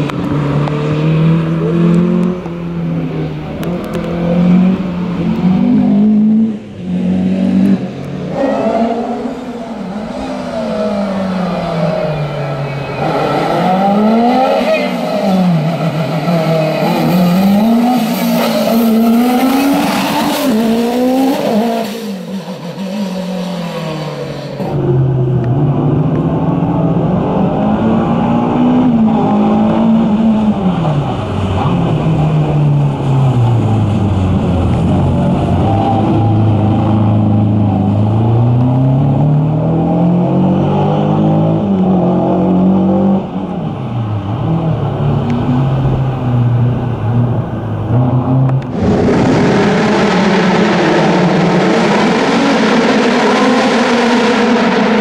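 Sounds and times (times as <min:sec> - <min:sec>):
car engine rising and falling: 0:00.0 - 0:55.0
race car engine revving: 0:00.0 - 0:55.0.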